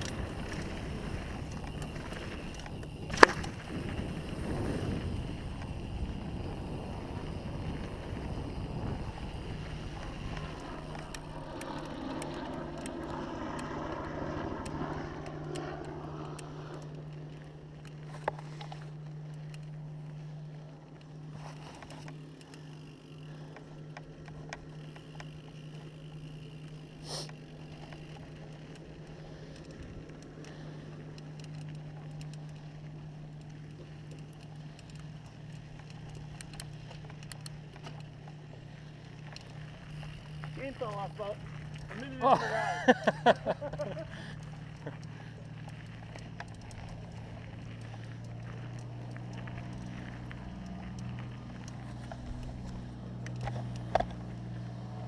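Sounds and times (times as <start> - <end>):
bike rattling clicks: 0.0 - 55.0
bike tyres on gravel: 0.0 - 55.0
steady low hum: 0.0 - 55.0.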